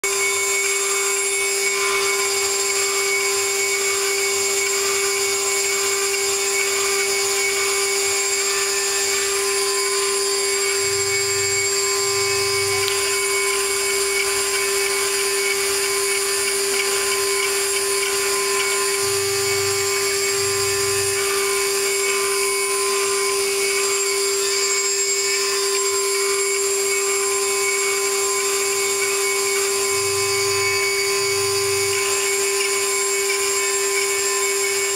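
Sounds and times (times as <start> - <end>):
router bit grinding stone: 0.0 - 34.9
spindle whine: 0.0 - 34.9.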